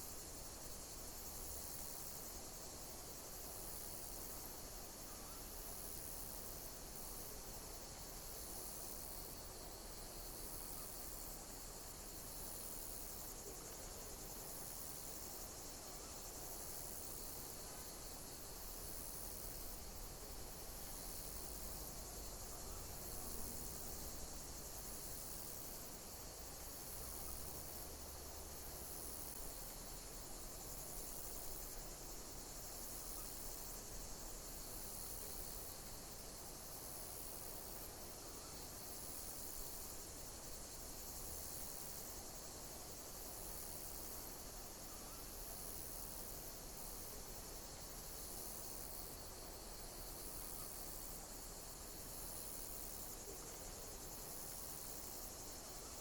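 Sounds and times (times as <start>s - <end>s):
insects chirping: 0.0s - 56.0s
steady hiss: 0.0s - 56.0s.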